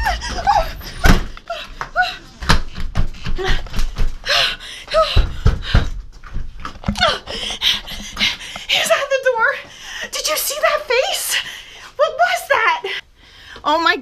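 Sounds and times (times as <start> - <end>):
woman panting and gasping: 0.0 - 12.1.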